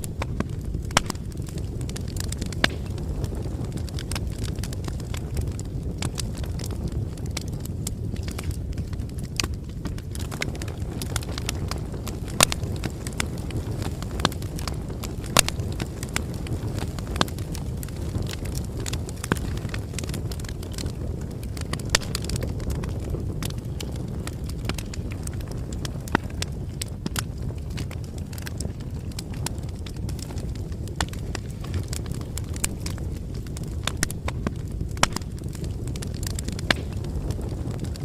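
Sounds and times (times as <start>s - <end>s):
burning wood crackling and popping: 0.0s - 38.0s
low rumble of flames: 0.0s - 38.0s.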